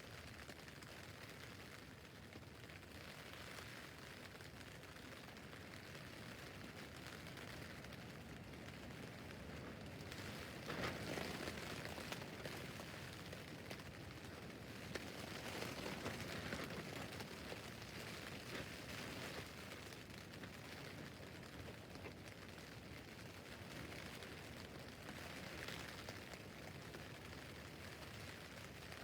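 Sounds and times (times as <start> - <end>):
rain drumming on tent fabric: 0.0 - 29.0.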